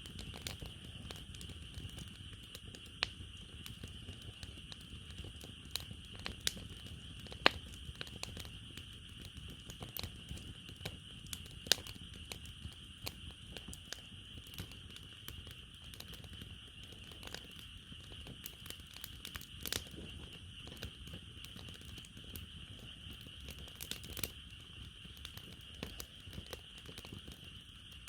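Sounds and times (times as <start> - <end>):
firewood crackling and popping: 0.0 - 28.0
night insects chirring: 0.0 - 28.0.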